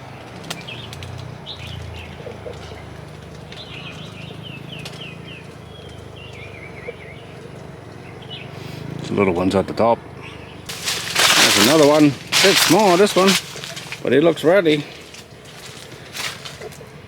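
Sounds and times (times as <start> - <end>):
bird chirping: 0.6 - 8.6, 10.2 - 17.0.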